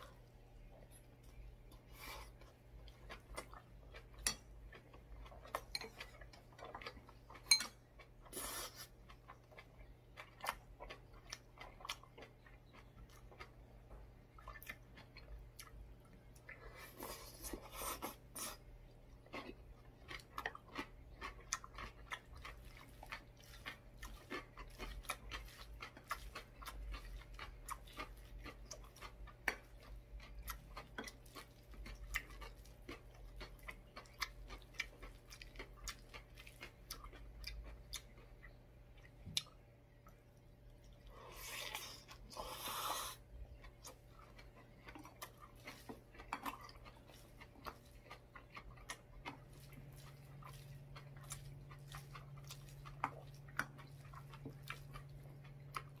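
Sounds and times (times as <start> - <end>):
chewing crunchy food: 0.0 - 56.0.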